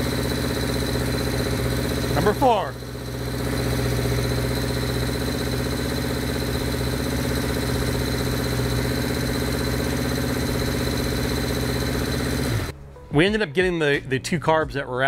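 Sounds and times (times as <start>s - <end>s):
motorcycle engine at fast idle: 0.0s - 12.7s.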